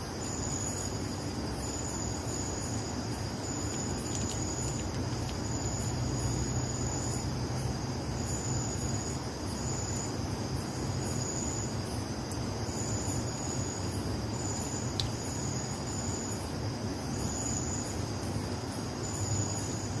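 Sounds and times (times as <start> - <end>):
higher cricket trill: 0.0 - 20.0
steady cricket trill: 0.0 - 20.0.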